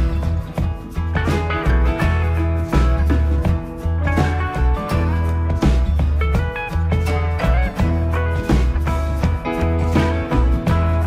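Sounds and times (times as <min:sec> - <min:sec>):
background music with bass and plucked notes: 0:00.0 - 0:11.0.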